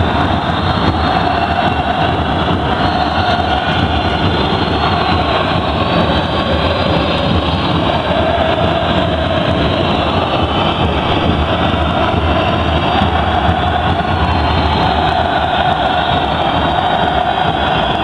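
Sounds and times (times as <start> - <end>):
large crowd din indoors: 0.0 - 18.0.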